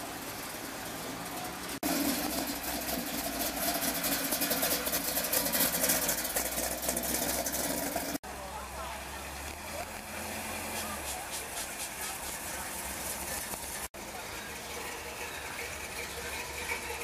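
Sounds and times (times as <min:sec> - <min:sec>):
car engine passing: 0:00.0 - 0:17.0
loud uneven car engine: 0:00.0 - 0:17.0.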